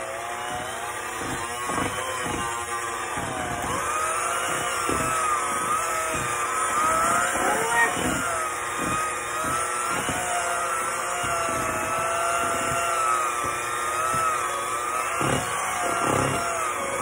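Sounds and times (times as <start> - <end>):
hand mixer motor whining: 0.0 - 17.0.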